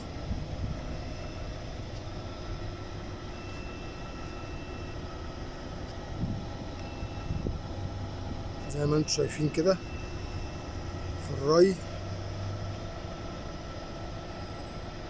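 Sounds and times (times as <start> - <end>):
faint high whine: 0.0 - 12.3.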